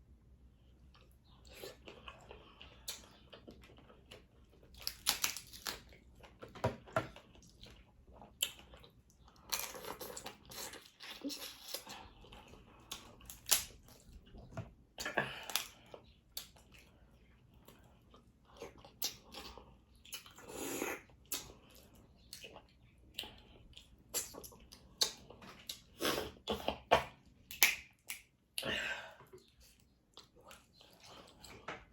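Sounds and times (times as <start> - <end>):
wet chewing and crunching: 0.6 - 28.6.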